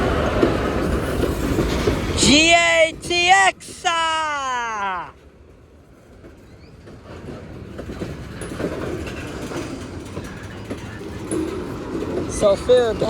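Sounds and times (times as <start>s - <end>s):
freight train wheels rumbling and clacking: 0.0s - 13.0s.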